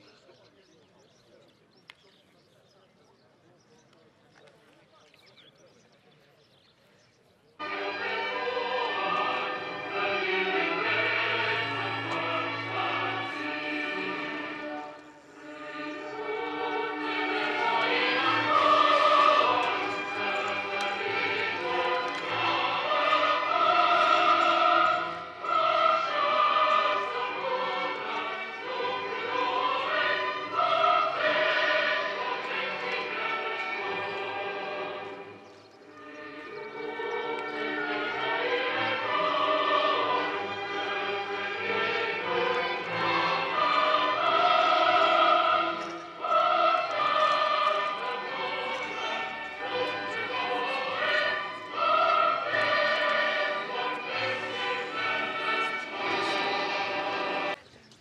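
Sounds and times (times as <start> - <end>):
choir singing: 7.6 - 57.6
orchestra playing: 7.6 - 57.6
solemn choral music: 7.6 - 57.6.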